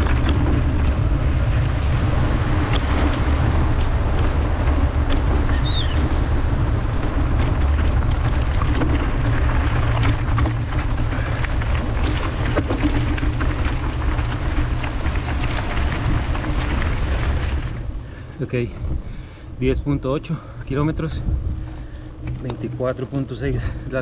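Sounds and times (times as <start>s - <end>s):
bike clicks and knocks: 0.0s - 18.9s, 21.4s - 24.0s
wind buffeting microphone: 0.0s - 24.0s.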